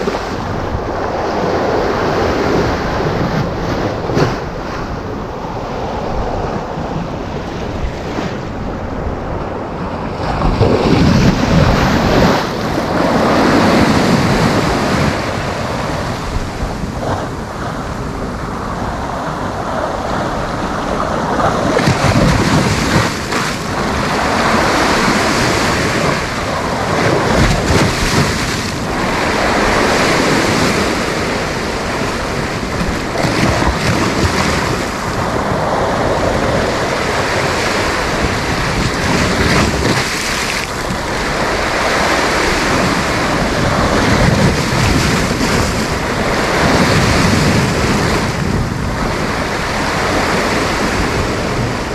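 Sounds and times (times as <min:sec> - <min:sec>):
waves breaking on beach: 0:00.0 - 0:51.9
wind buffeting microphone: 0:00.0 - 0:51.9.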